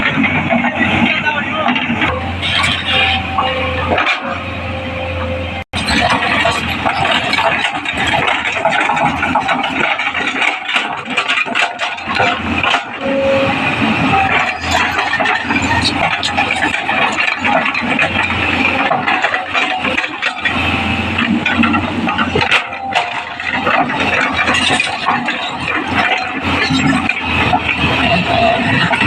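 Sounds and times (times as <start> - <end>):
machine clanks and rattles: 0.0 - 4.4, 5.8 - 13.3, 13.9 - 29.0
excavator engine running: 0.0 - 29.0.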